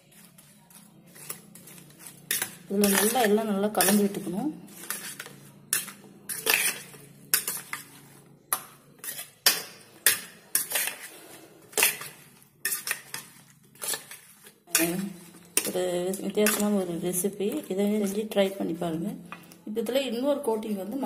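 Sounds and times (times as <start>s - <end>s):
spoon scraping a metal bowl: 0.0s - 20.0s.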